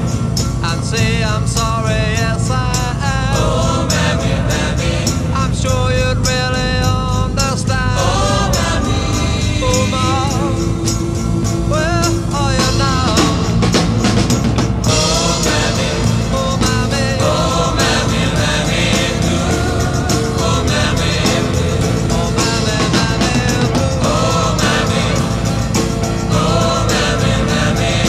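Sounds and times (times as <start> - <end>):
song with singing over band: 0.0 - 28.0.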